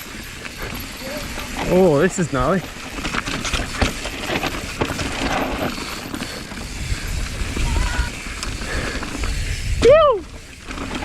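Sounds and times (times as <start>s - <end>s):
tyres crunching over dirt and rocks: 0.0s - 9.4s
bike clicks and knocks: 0.0s - 11.0s
low wind rumble: 0.0s - 11.0s.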